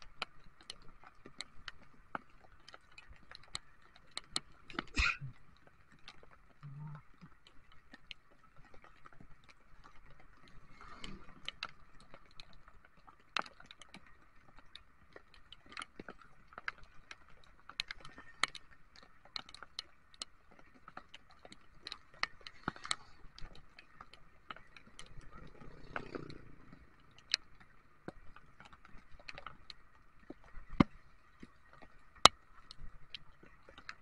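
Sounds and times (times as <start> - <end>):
raindrops tapping on windscreen: 0.0 - 34.0.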